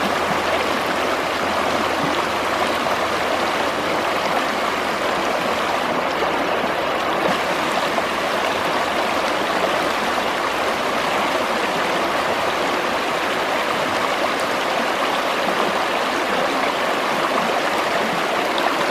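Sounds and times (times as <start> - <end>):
river water rushing: 0.0 - 18.9.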